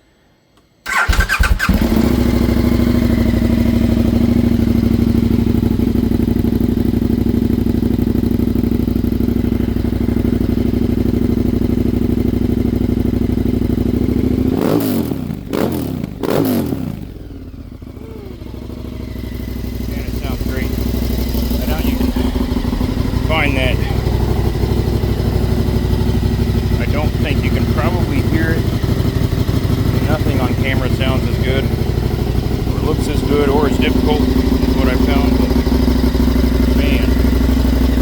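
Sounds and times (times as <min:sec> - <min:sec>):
motorcycle engine idling loudly: 0:00.9 - 0:38.0.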